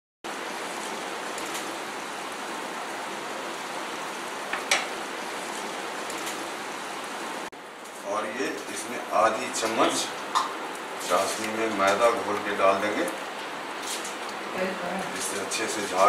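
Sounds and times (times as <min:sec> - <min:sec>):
syrup boiling in a pan: 0:00.3 - 0:14.5.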